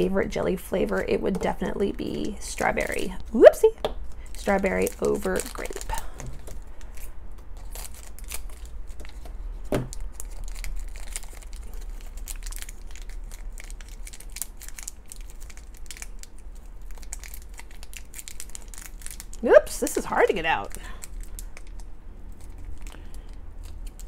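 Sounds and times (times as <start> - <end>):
plastic wrapper crinkling and tearing: 4.0 - 24.0.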